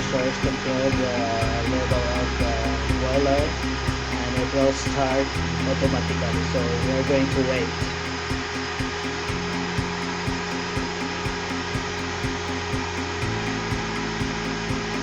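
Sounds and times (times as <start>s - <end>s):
pump machine hum with ticking: 0.0s - 15.0s.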